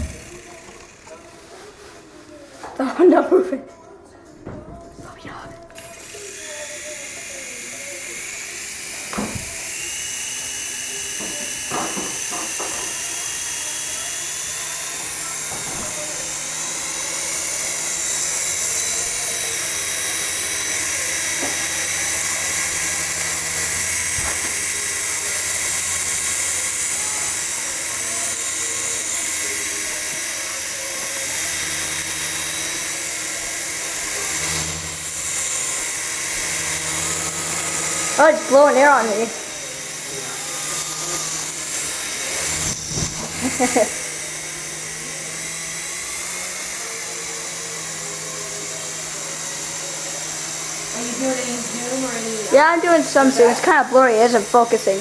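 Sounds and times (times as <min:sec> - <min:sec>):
remote-control helicopter whine: 0:00.0 - 0:01.8, 0:05.7 - 0:55.0.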